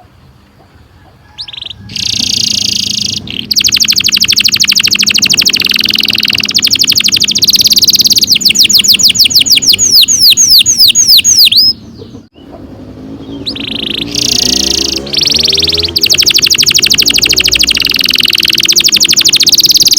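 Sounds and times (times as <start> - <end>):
canary singing trills: 0.7 - 19.9.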